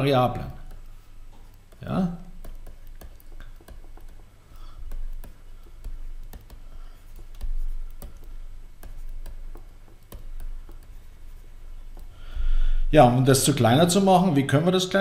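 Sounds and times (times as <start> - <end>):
low electrical hum: 0.0 - 15.0
stylus tapping on screen: 0.4 - 12.6.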